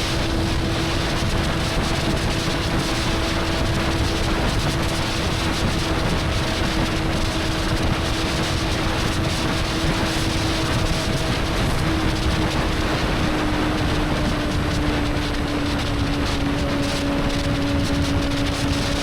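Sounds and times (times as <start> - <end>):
motorcycle engine cruising: 0.0 - 19.0
wind rush on microphone: 0.0 - 19.0.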